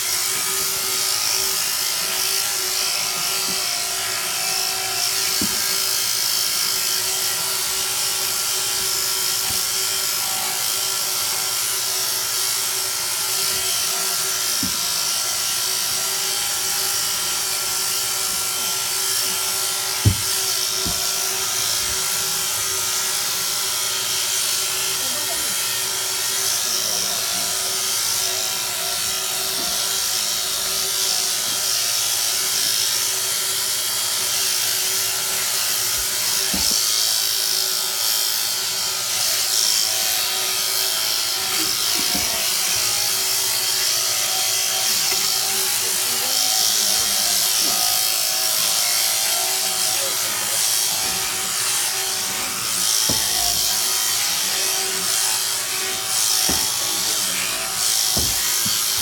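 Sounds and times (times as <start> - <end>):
electric shears motor buzz: 0.0 - 59.0.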